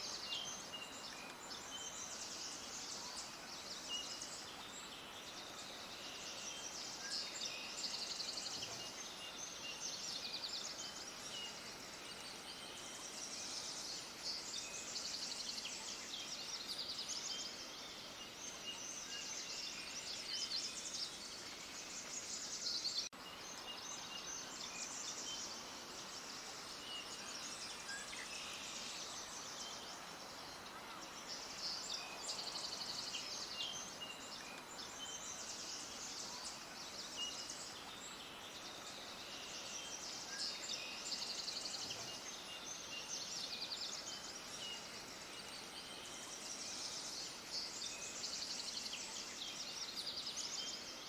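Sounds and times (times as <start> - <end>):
small birds chirping in chorus: 0.0 - 51.0.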